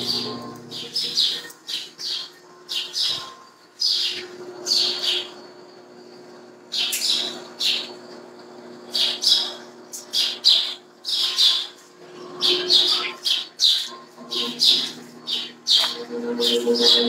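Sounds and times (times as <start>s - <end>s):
bird chirping: 0.0s - 5.5s, 6.7s - 8.0s, 8.9s - 17.0s.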